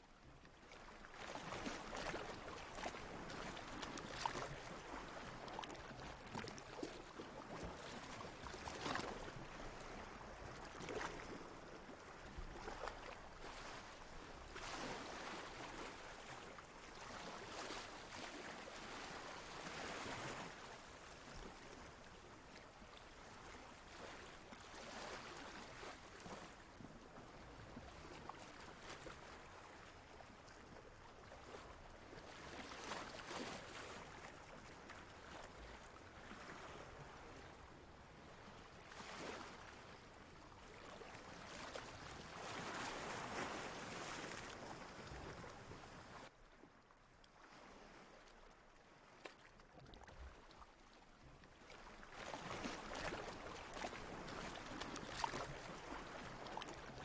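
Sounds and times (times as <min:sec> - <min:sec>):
faint ocean waves: 0:00.6 - 0:57.0.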